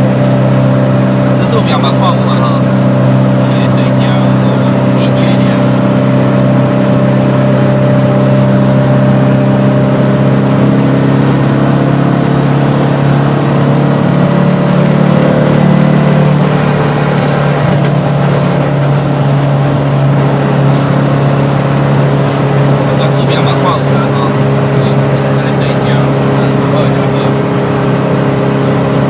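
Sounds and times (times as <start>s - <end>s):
car engine drone from inside cabin: 0.0s - 29.0s.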